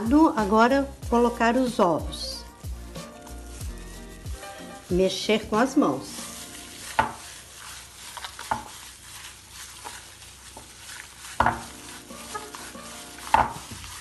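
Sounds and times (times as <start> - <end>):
hands squishing mashed sweet potato: 0.1 - 14.0.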